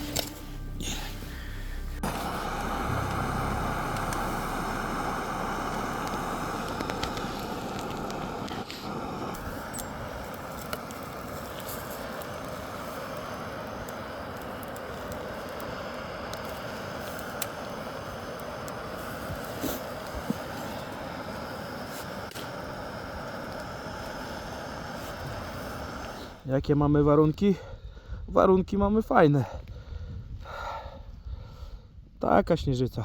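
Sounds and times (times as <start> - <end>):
snowstorm wind: 0.0 - 33.0.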